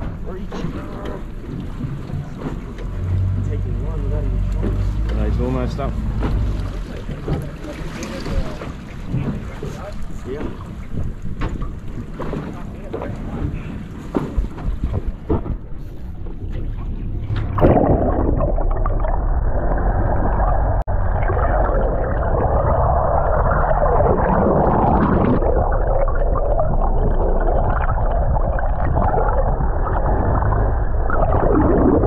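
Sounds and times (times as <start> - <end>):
boat noise: 0.0 - 32.0
steady low rumble: 0.0 - 32.0
underwater rushing and gurgling water: 0.0 - 32.0
wind: 0.0 - 32.0.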